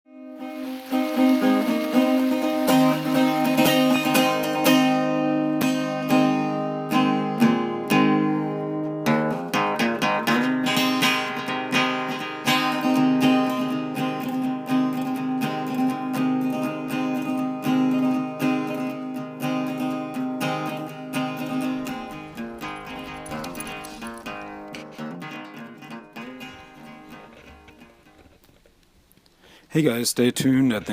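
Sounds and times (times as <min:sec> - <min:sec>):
acoustic guitar music: 0:00.1 - 0:29.6.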